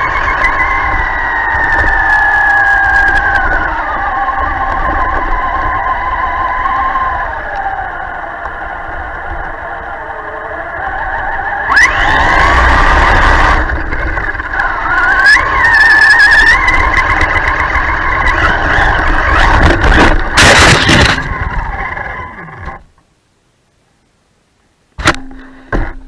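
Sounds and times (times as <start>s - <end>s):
toy truck electric motor whining: 0.0s - 22.8s.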